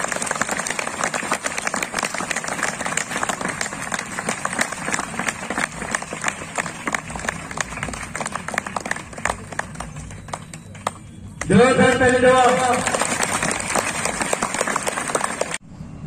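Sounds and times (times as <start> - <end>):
audience clapping: 0.0 - 15.6.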